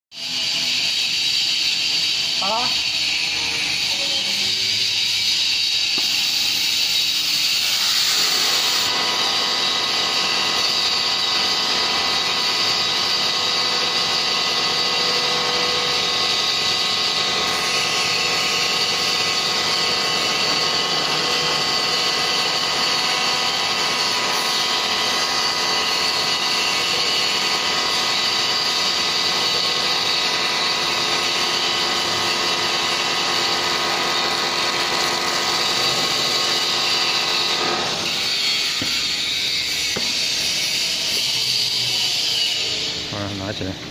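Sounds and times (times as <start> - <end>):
lathe machining whine: 0.2 - 43.9.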